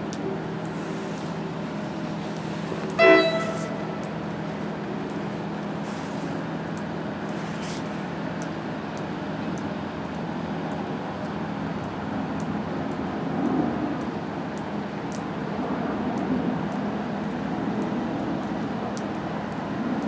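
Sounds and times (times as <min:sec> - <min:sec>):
steady low hum: 0:00.0 - 0:20.0
steady rain: 0:00.0 - 0:20.0
train rumble: 0:00.0 - 0:20.0.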